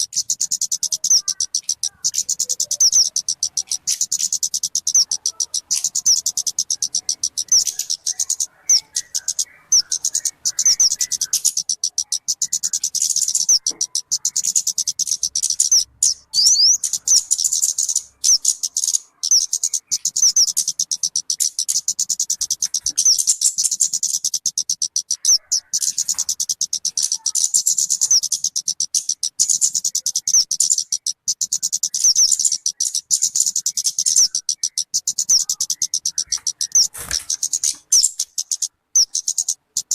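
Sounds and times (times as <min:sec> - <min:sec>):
songbird chattering song: 0:00.0 - 0:39.9.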